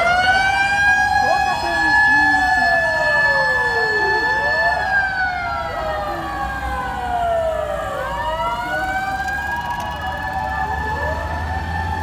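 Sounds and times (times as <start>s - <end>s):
mechanical motor siren wailing: 0.0s - 12.0s.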